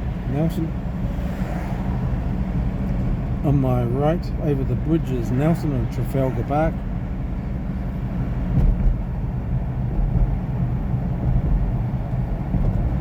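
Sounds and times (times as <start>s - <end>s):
low engine hum: 0.0s - 13.0s
road noise: 0.0s - 13.0s.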